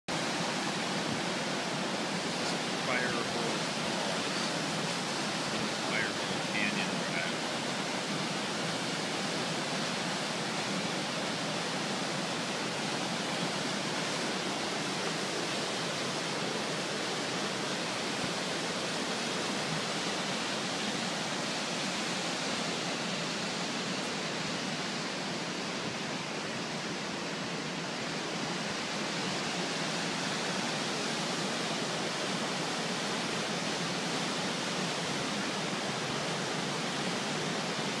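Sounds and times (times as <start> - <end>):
water rushing over rocks: 0.1 - 38.0.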